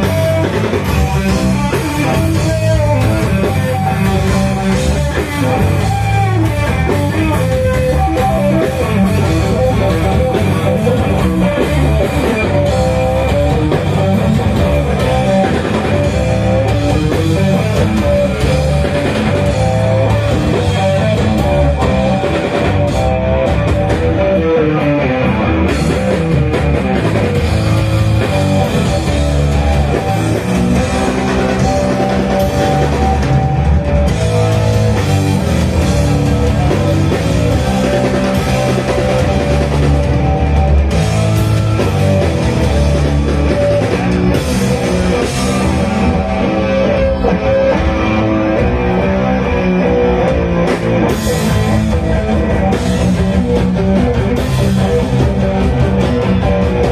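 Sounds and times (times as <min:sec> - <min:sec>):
electric guitar lead bending: 0:00.0 - 0:56.9
rock band playing: 0:00.0 - 0:56.9.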